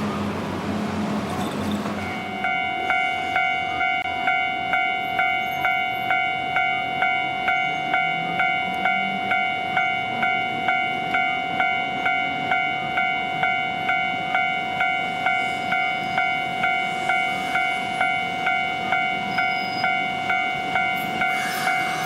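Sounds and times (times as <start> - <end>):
street traffic: 0.0 - 22.0
level crossing bell ringing: 2.0 - 21.8.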